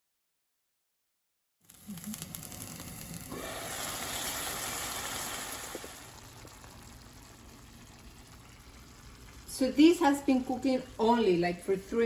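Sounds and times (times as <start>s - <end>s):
stew simmering and sizzling: 1.6s - 12.0s.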